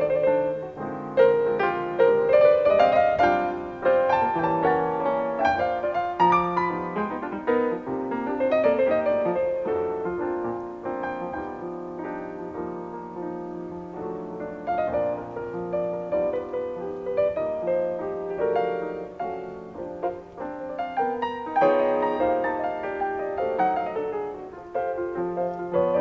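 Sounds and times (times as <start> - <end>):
jazz piano duo: 0.0 - 26.0.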